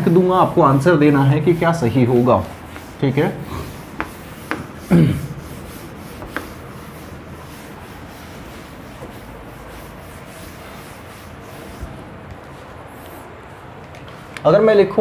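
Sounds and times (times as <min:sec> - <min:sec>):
duster rubbing on whiteboard: 0:00.0 - 0:13.4.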